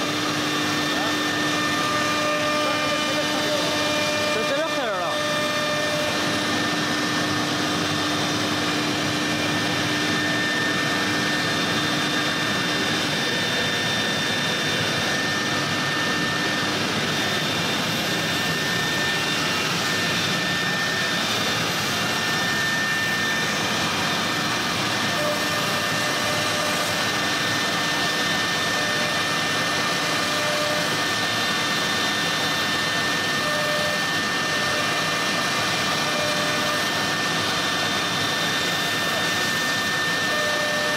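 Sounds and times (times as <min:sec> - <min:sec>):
electric spindle whining: 0:00.0 - 0:40.9
router boring into wood: 0:00.0 - 0:40.9.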